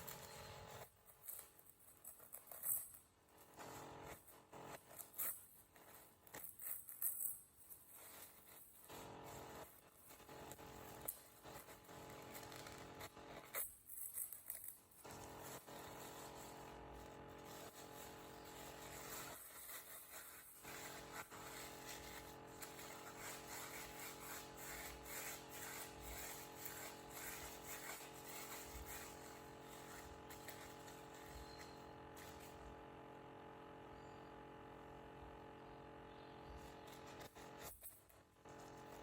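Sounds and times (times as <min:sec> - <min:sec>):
strokes on paper towels: 0:00.0 - 0:32.9
steady background hum: 0:00.0 - 0:39.0.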